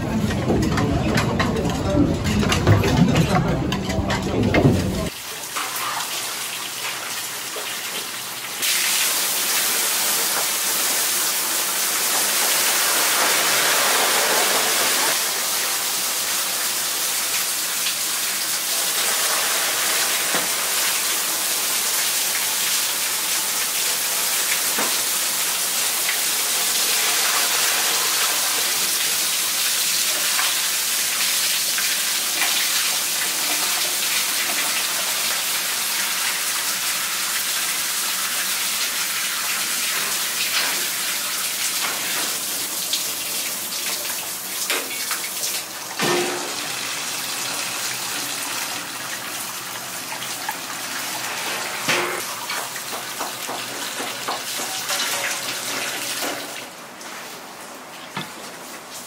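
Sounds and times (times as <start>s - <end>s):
faucet water gushing into kettle: 5.1s - 59.0s.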